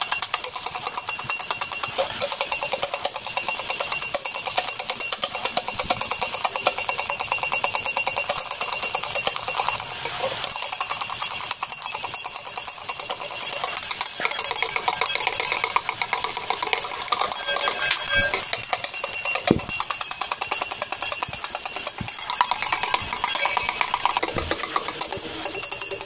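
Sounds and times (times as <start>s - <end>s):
beaters clicking against bowl: 0.0s - 26.0s
electric hand mixer running: 0.0s - 26.0s.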